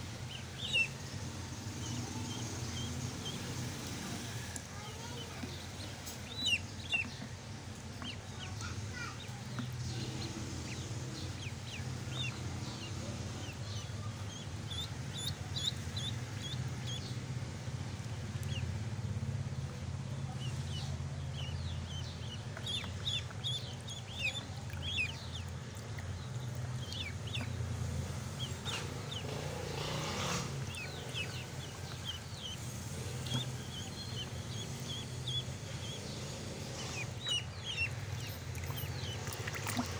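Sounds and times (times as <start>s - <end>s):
ducklings peeping: 0.0s - 39.9s
steady low hum: 0.0s - 39.9s
water splashing: 0.0s - 39.9s.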